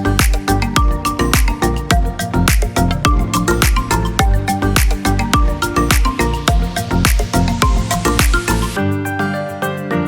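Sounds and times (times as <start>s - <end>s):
electronic beat with heavy bass: 0.0s - 9.5s
sustained keyboard chords: 0.0s - 10.0s.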